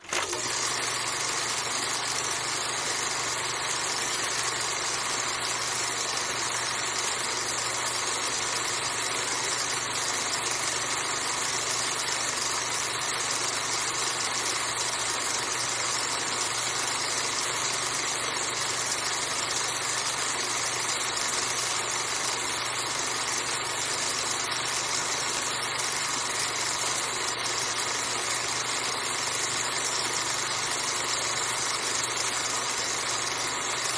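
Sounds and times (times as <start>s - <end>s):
film projector whirring: 0.0s - 33.9s.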